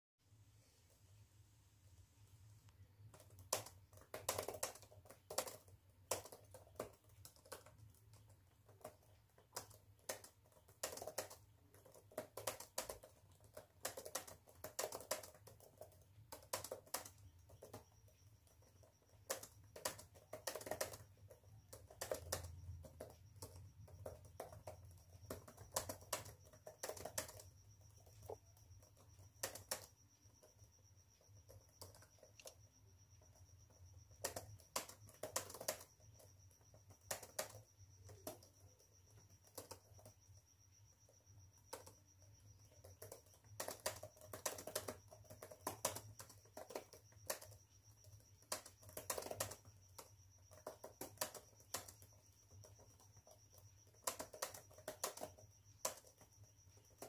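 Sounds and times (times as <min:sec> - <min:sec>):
faint high steady tone: 0:00.2 - 0:57.0
laptop keyboard typing: 0:02.7 - 0:57.0.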